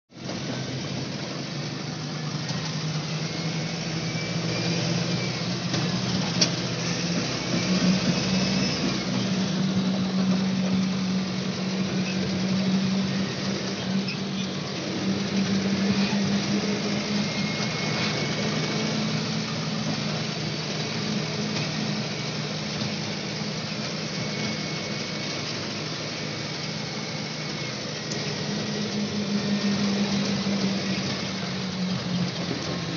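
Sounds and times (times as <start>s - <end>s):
road and tyre noise: 0.0s - 32.9s
vehicle engine humming: 0.1s - 32.9s.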